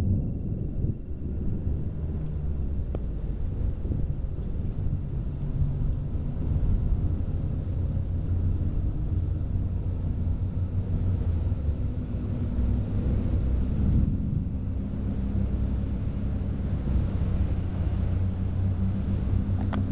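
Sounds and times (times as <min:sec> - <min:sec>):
rolling thunder: 0:00.0 - 0:19.9
rain falling: 0:02.0 - 0:19.9.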